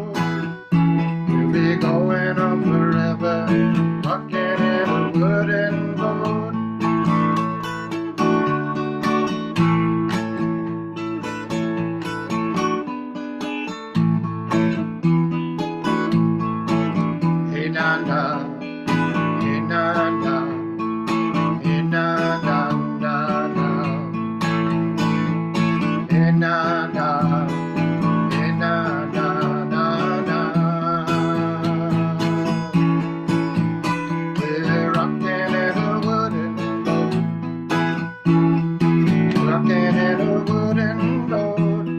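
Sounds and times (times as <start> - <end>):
acoustic guitar strumming: 0.0 - 41.9.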